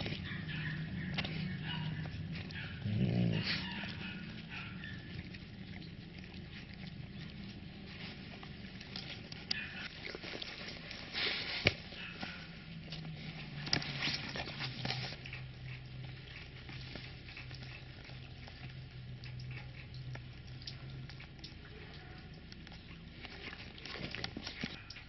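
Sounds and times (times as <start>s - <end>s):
dog chewing cardboard: 0.0s - 24.9s.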